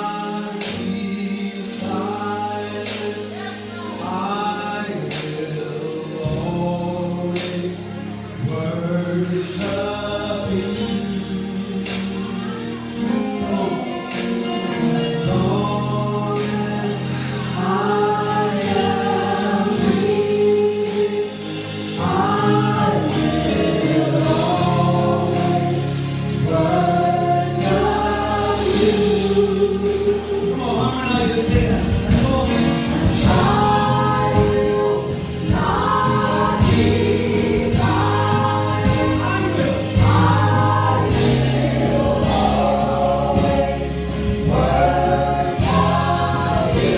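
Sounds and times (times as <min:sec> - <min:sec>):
bass: 0:00.0 - 0:46.9
gospel choir singing: 0:00.0 - 0:46.9
keyboard chords: 0:00.0 - 0:46.9.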